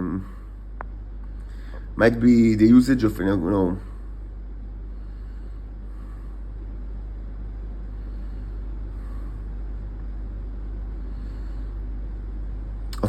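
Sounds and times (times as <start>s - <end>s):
constant low hum: 0.0s - 13.0s
low background rumble: 0.0s - 13.0s.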